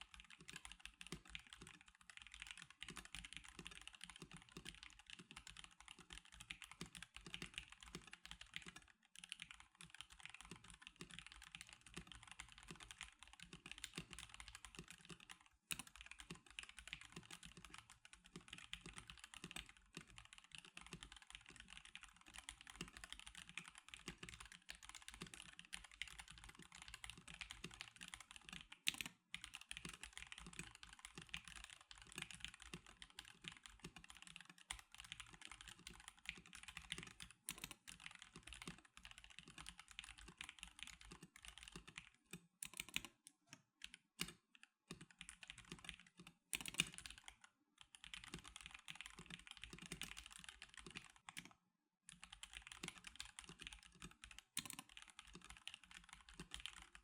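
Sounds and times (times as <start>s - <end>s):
fast mechanical keyboard typing: 0.0s - 43.2s, 43.8s - 51.5s, 52.1s - 57.0s.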